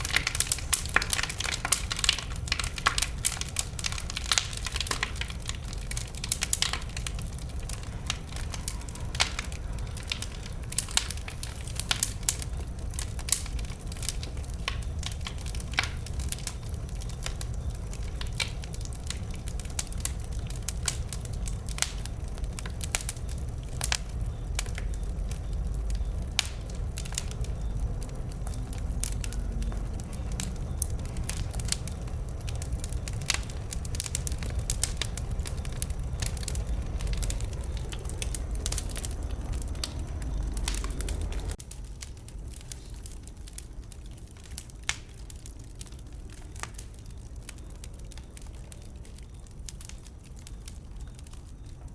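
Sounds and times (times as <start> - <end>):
low rumble: 0.0 - 44.2
bonfire crackling and popping: 0.0 - 51.9.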